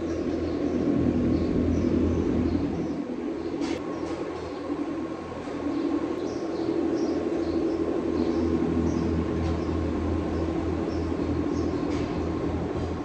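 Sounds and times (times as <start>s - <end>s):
small birds chirping: 0.0s - 13.0s
ventilation fans humming: 0.0s - 13.0s.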